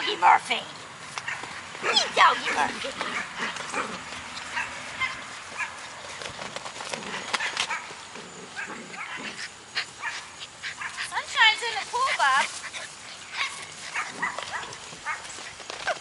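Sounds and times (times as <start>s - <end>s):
puppies yipping and barking: 1.2s - 16.0s.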